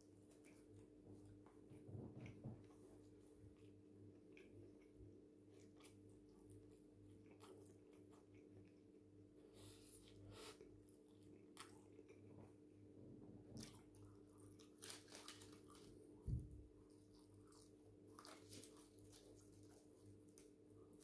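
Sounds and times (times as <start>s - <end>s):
chewing and crunching: 0.0s - 12.7s, 13.4s - 21.0s.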